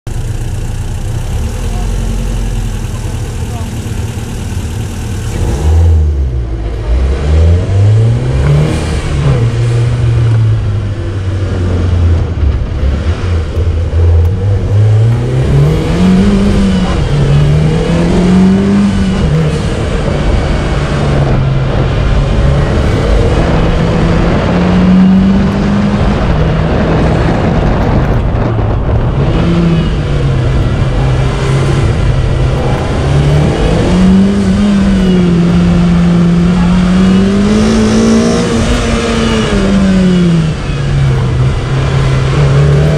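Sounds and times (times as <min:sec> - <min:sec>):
car engine revving hard: 0:00.6 - 0:42.9.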